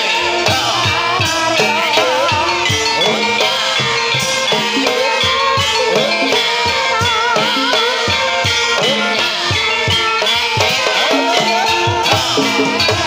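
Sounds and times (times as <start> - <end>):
drum strokes: 0.0 - 13.0
pitched percussion ensemble: 0.0 - 13.0
wavering melody: 0.0 - 13.0.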